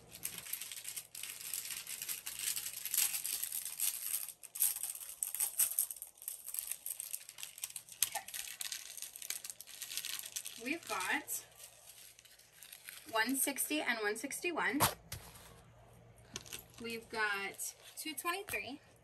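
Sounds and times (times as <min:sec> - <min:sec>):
small plastic bags crinkling: 0:00.0 - 0:13.2, 0:16.3 - 0:18.4.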